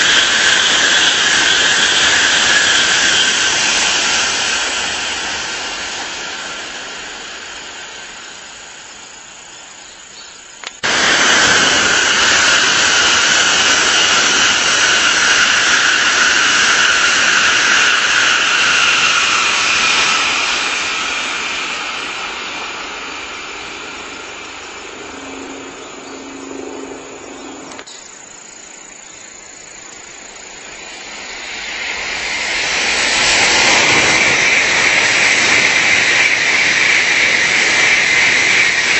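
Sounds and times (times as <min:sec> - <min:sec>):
high-speed trains passing: 0:00.0 - 0:38.9.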